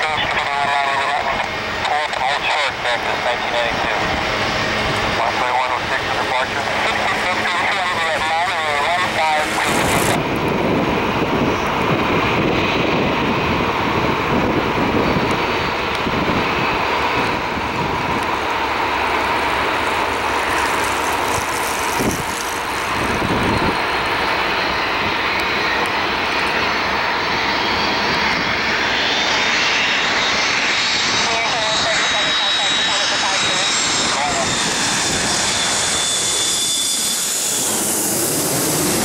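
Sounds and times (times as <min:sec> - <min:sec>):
high jet whine: 0:00.0 - 0:39.0
jet engine rumble: 0:00.0 - 0:39.0.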